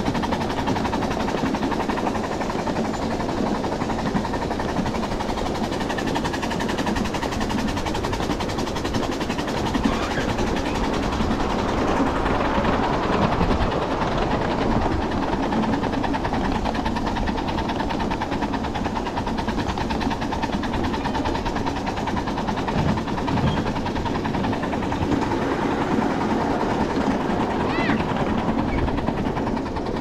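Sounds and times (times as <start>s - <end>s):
steam locomotive rapid beat: 0.0s - 30.0s
steam train wheels on rail: 0.0s - 30.0s.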